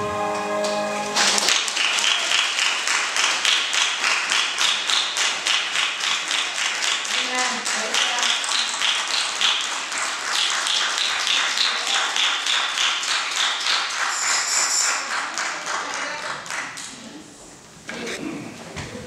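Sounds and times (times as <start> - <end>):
rhythmic hand clapping: 0.0 - 17.0.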